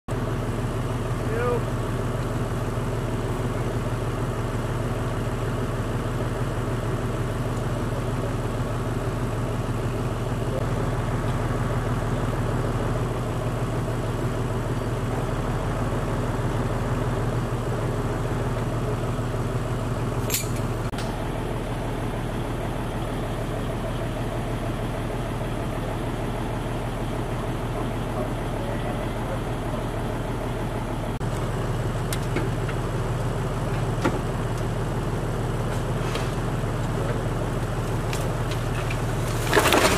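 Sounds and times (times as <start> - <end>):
engine idling: 0.1 - 39.9.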